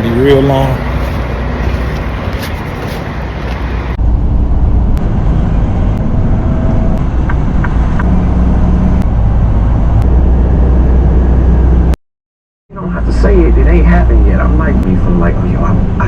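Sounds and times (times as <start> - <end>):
road noise: 0.0 - 12.0, 12.7 - 16.0
truck diesel engine drone: 0.0 - 12.0, 12.7 - 16.0.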